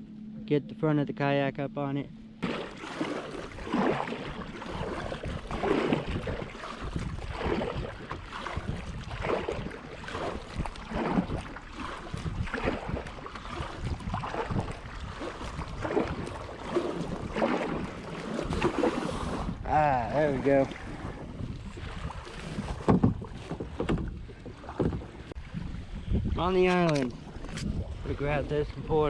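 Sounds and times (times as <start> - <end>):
paddle strokes splashing: 2.4 - 28.8
wind on microphone: 3.4 - 29.0.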